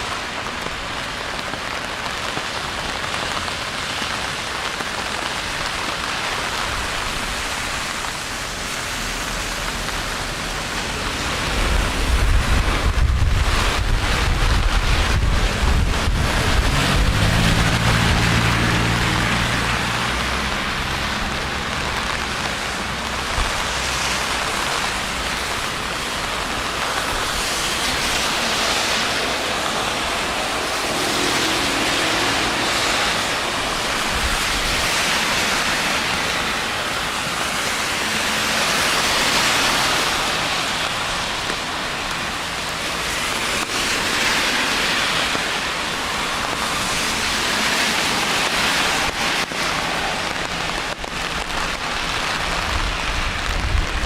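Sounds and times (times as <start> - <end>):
rain hissing on street: 0.0 - 54.0.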